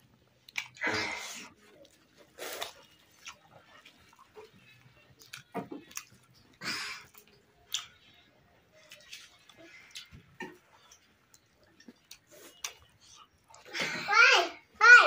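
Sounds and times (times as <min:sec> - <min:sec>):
person chewing food: 0:00.0 - 0:13.7.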